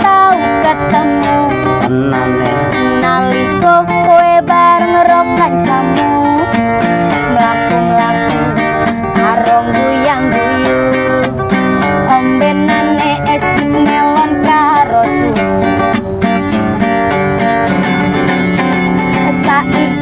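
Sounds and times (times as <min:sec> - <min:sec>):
acoustic guitar playing: 0:00.0 - 0:20.0
sliding melody line: 0:00.0 - 0:20.0.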